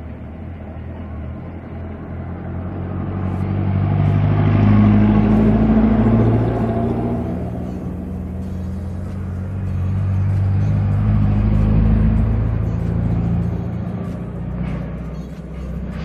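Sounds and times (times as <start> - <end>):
motor humming and rumbling: 0.0 - 16.0.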